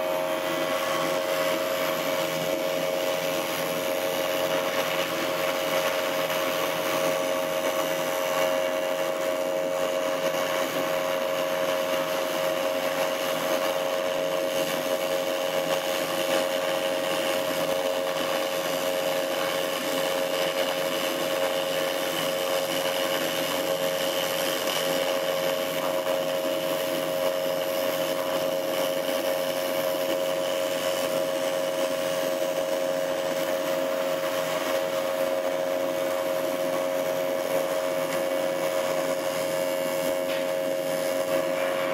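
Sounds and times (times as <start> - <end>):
welding arc buzzing with hiss: 0.0 - 41.9.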